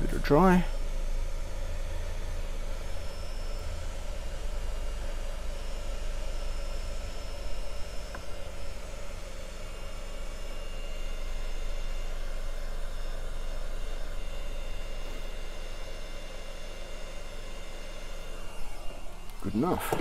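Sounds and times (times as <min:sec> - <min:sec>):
faint motor hum and whine: 0:00.0 - 0:20.0
heat gun blowing: 0:00.0 - 0:20.0.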